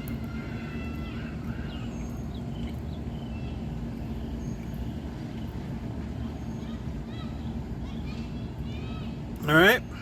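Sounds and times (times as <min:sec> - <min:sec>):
low rumble with hum: 0:00.0 - 0:10.0.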